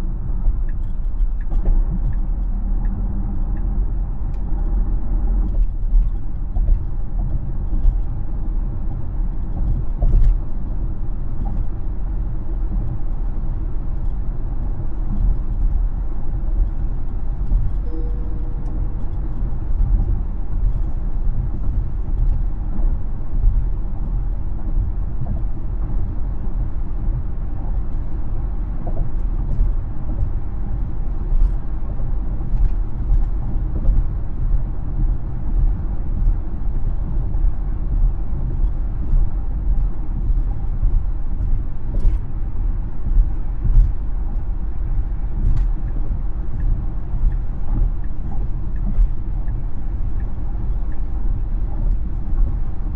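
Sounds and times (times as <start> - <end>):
road and tyre rumble: 0.0 - 52.9.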